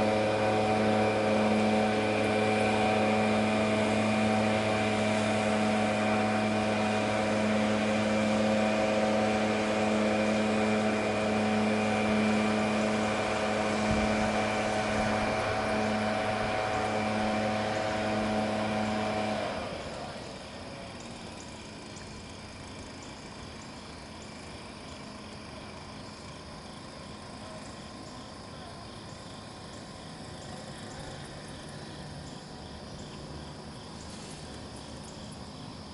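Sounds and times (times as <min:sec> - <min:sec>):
engine-driven blower running: 0:00.0 - 0:35.9.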